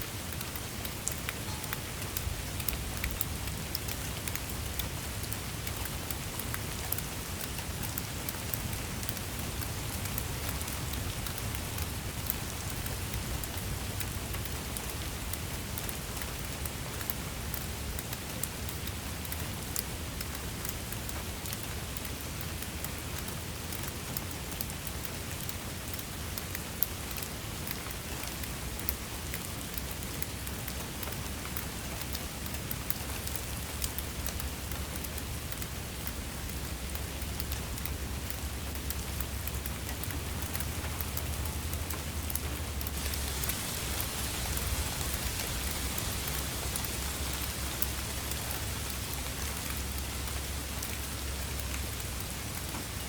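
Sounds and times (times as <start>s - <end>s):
rain falling: 0.0s - 53.0s
raindrops ticking: 0.0s - 53.0s.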